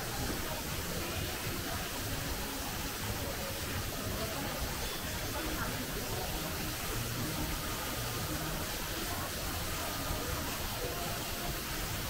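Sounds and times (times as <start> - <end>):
faint indistinct voices: 0.0 - 12.0
indoor hall noise: 0.0 - 12.0.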